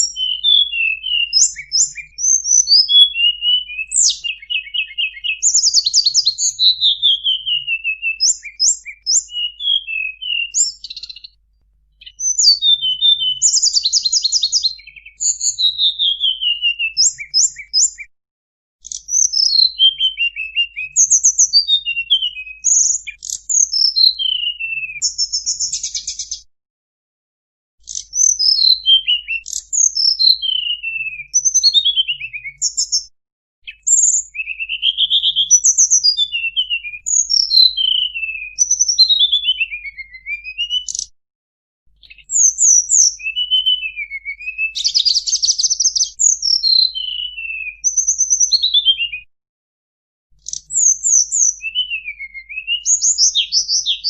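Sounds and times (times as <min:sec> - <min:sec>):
bird singing whistled phrases: 0:00.0 - 0:11.4, 0:12.0 - 0:18.1, 0:18.8 - 0:26.5, 0:27.8 - 0:41.1, 0:42.0 - 0:49.3, 0:50.4 - 0:54.0.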